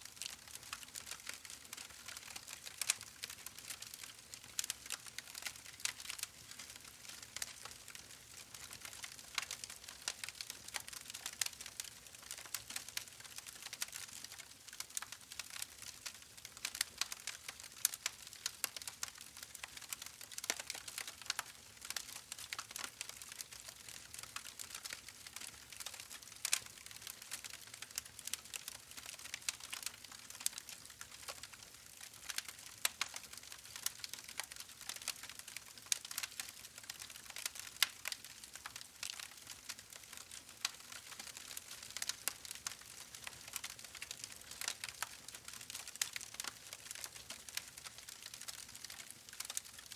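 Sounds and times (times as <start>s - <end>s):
wood fire crackling: 0.1s - 49.9s.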